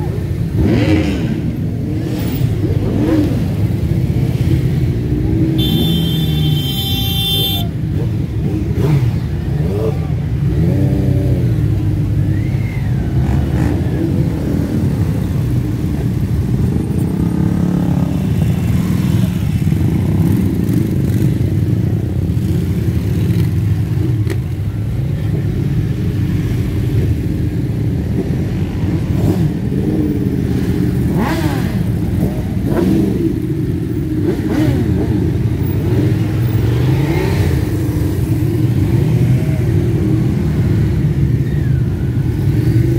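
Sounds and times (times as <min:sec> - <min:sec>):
many motorcycle engines rumbling: 0:00.0 - 0:42.9
motorcycle revving: 0:00.0 - 0:42.9.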